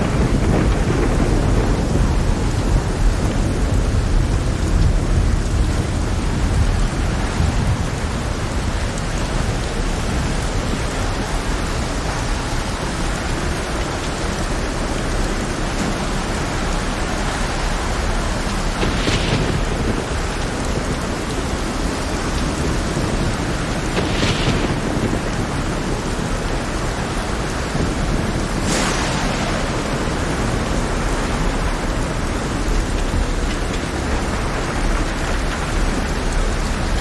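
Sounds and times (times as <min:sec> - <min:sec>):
heavy rain hissing: 0:00.0 - 0:37.0
low thunder rumble: 0:00.0 - 0:37.0.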